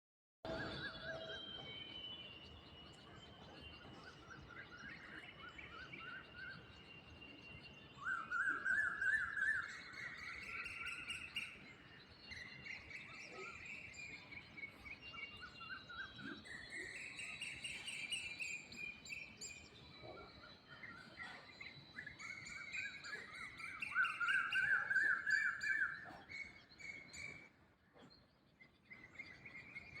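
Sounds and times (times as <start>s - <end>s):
birds singing trilled phrases: 0.5s - 30.0s.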